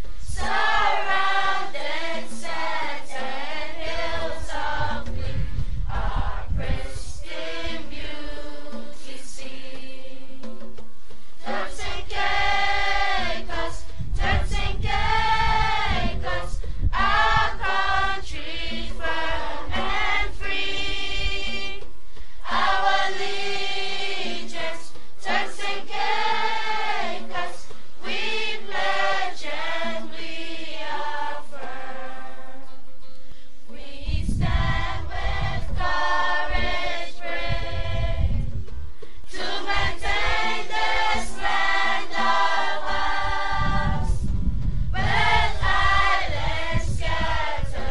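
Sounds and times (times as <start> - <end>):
choir singing long held notes: 0.1 - 10.6, 11.4 - 32.9, 33.7 - 38.6, 39.2 - 47.9.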